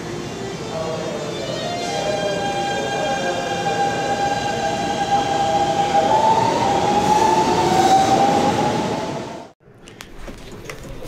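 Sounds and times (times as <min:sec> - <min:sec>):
train inverter musical tones: 0:00.0 - 0:09.6
train rolling noise: 0:00.0 - 0:09.6.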